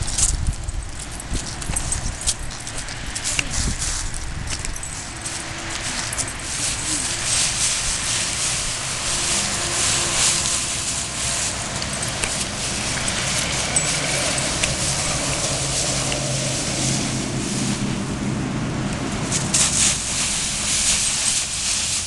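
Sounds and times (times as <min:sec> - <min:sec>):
dry leaves rustling: 0:00.0 - 0:22.0
low engine hum: 0:00.0 - 0:22.0.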